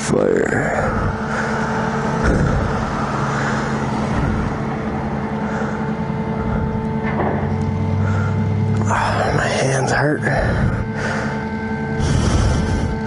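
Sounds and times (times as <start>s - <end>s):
deeper hum: 0.0s - 13.0s
road traffic: 0.0s - 13.0s
vehicle engine humming: 0.0s - 13.0s.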